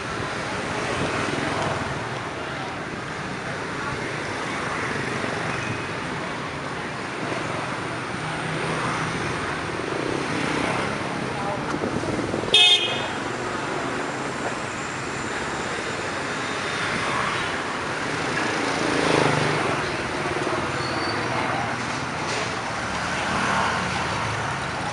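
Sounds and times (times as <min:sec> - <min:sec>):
motorbike traffic: 0:00.0 - 0:24.9.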